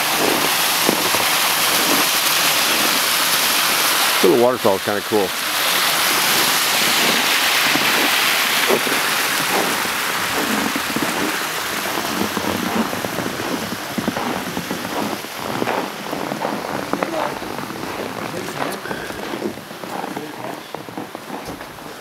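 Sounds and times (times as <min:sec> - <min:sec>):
small waterfall splashing: 0:00.0 - 0:22.0.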